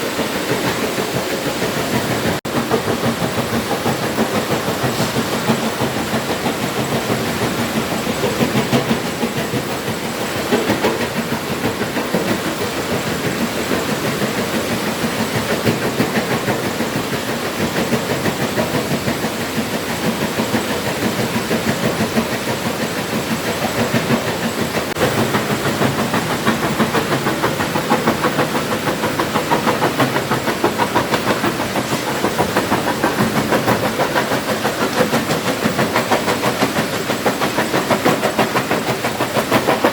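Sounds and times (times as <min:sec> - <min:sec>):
fast even rattle: 0:02.7 - 0:39.9.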